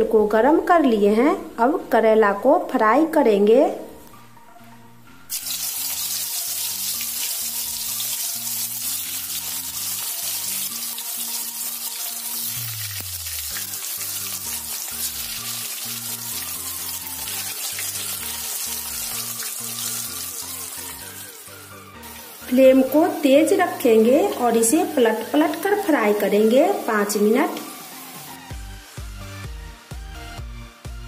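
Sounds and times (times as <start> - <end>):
soft background music: 0.0 - 31.0
oil sizzling in a wok: 5.3 - 30.5.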